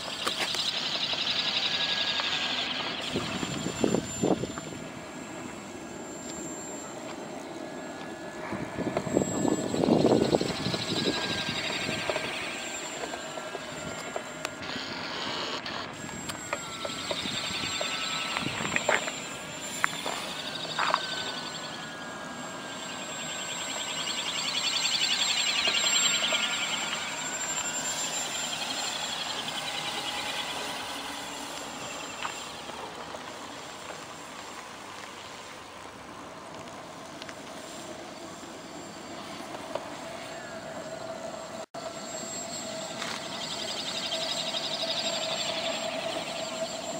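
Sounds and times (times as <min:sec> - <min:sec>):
model aircraft motor whine: 0:00.0 - 0:46.9.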